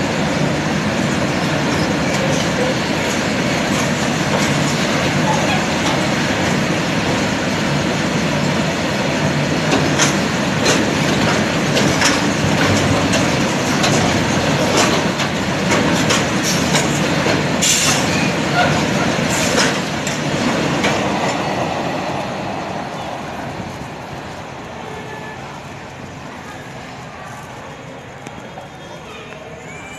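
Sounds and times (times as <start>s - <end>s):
wheels clicking on track: 0.0s - 29.7s
freight train rumbling past: 0.0s - 29.9s.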